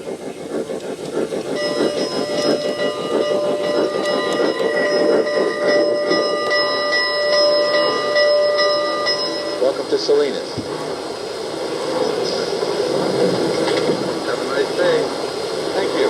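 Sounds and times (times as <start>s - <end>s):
running train rumble: 0.0s - 16.0s.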